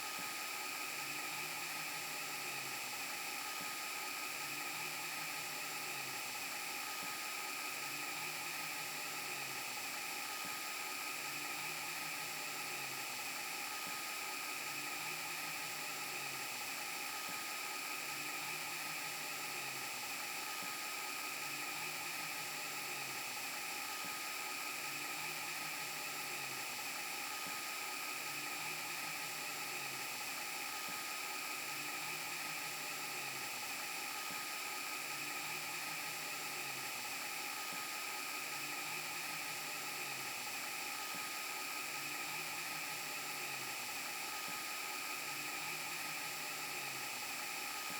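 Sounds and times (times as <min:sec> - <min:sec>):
tape rewind hiss: 0:00.0 - 0:47.9.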